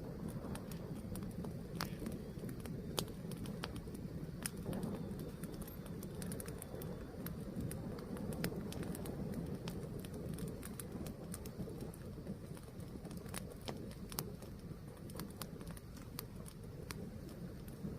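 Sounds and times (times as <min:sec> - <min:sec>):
fire crackling and popping: 0:00.0 - 0:17.9.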